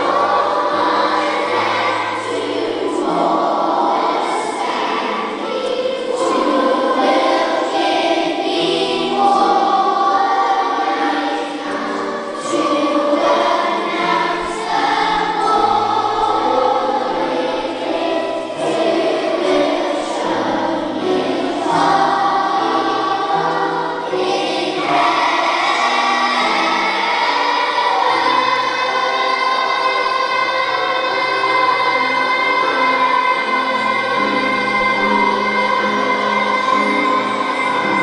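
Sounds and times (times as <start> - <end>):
children's choir singing: 0.0 - 38.0.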